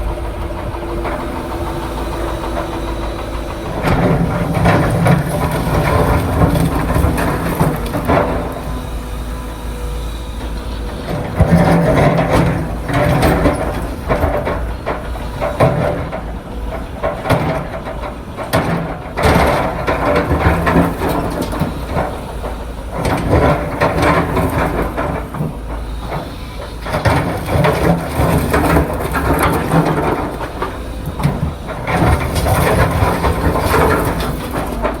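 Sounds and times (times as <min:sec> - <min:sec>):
knocks and clanks: 0:00.0 - 0:09.1, 0:10.4 - 0:35.0
heavy diesel machinery running: 0:00.0 - 0:35.0.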